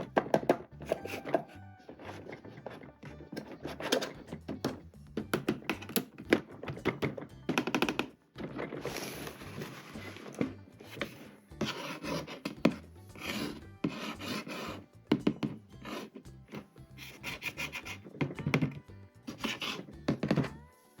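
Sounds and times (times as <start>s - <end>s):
plastic rubbing and scraping: 0.0s - 20.6s.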